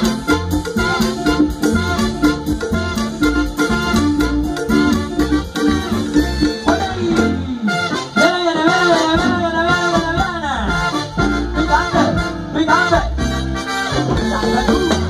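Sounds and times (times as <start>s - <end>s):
bass line: 0.0s - 15.0s
live salsa band playing: 0.0s - 15.0s
percussion: 0.0s - 15.0s
trumpets: 0.0s - 15.0s.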